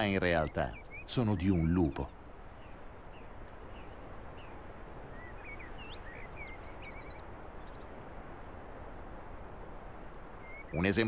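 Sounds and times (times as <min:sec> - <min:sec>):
songbird chirping: 0:00.0 - 0:11.0
steady background hiss: 0:00.0 - 0:11.0.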